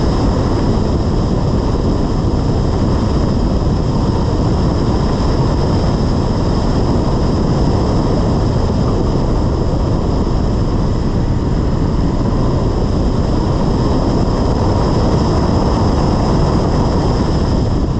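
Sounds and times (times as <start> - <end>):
wind and road noise: 0.0 - 17.9
wind rumble on microphone: 0.0 - 17.9.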